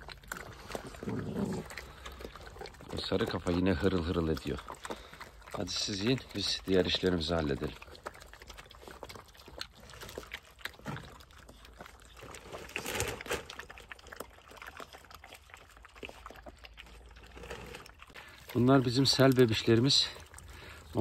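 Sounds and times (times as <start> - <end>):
puppies chewing and crunching kibble: 0.0 - 21.0.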